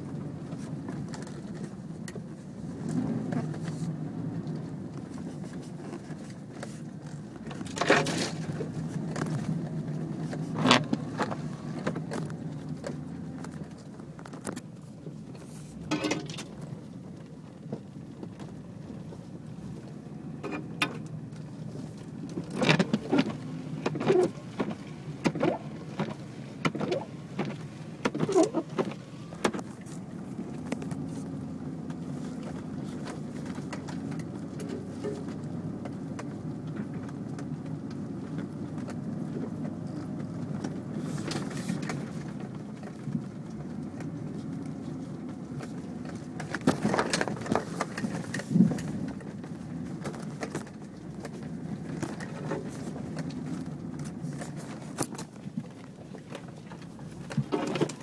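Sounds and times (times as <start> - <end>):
engine and road hum: 0.0 - 58.0.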